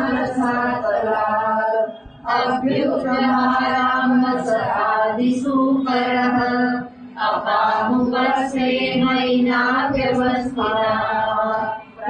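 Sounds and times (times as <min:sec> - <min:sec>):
woman chanting verses: 0:00.0 - 0:12.0.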